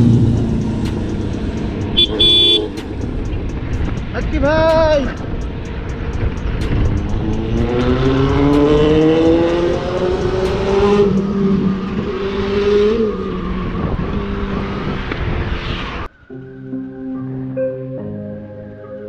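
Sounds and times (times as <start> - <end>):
motorcycle engine accelerating: 0.0 - 16.1
wind noise on microphone: 0.0 - 16.1.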